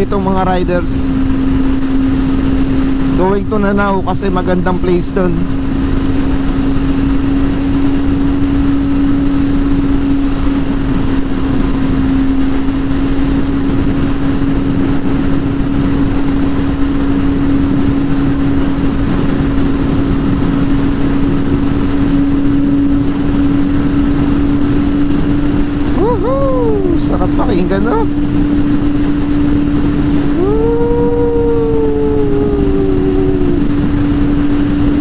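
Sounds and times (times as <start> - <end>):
motorcycle engine humming: 0.0 - 3.2, 5.4 - 35.0
wind and road noise: 0.0 - 35.0.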